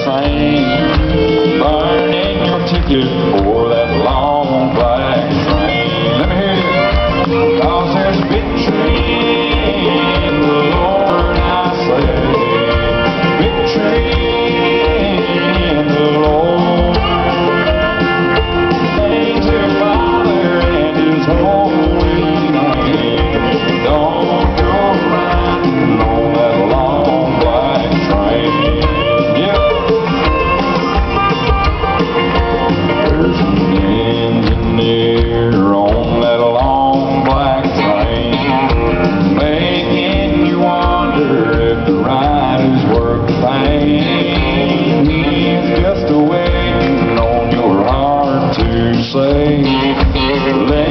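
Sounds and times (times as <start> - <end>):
guitar: 0.0 - 50.9
person singing: 0.0 - 50.9
steady drum beat: 0.0 - 50.9.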